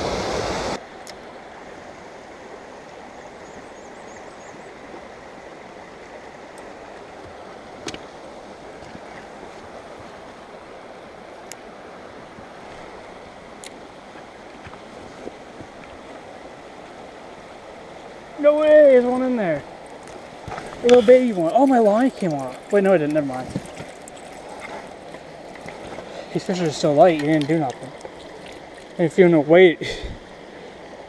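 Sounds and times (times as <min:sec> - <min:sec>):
stream running over rocks: 0:00.0 - 0:31.0.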